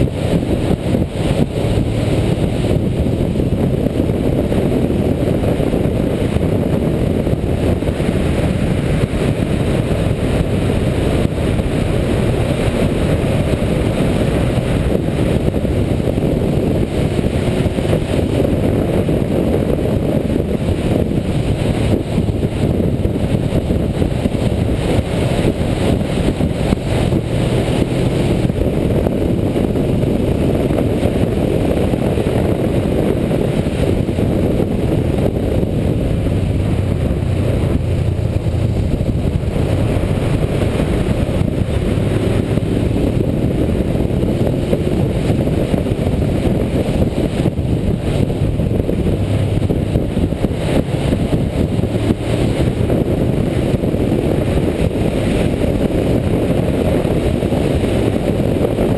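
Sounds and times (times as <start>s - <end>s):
motorcycle engine and wind rush: 0.0s - 58.9s.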